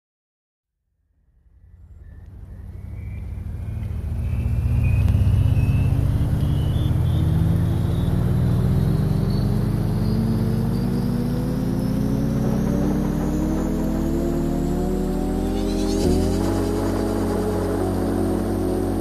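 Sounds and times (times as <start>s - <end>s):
engine drone rising in pitch: 1.2s - 19.0s.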